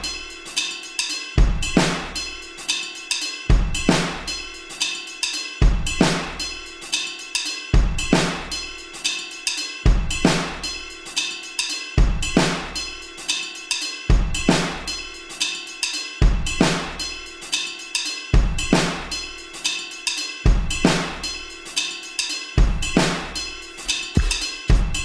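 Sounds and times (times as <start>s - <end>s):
instrumental beat music: 0.0s - 25.0s.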